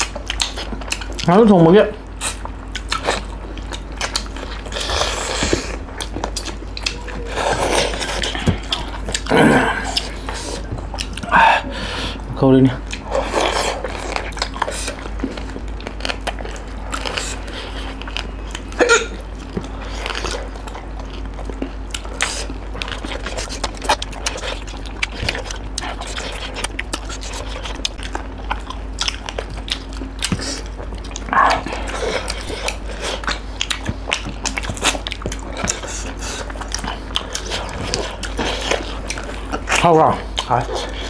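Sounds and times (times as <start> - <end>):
chewing and biting food: 0.0 - 41.0.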